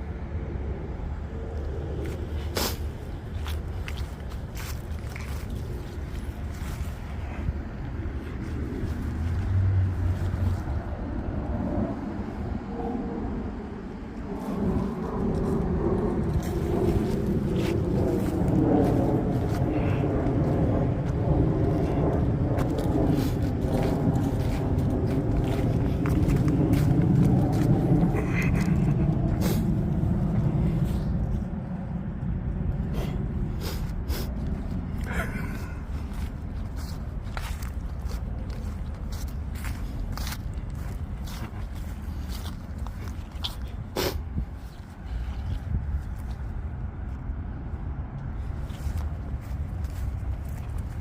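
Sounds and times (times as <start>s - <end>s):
train passing rumble: 0.0s - 51.0s.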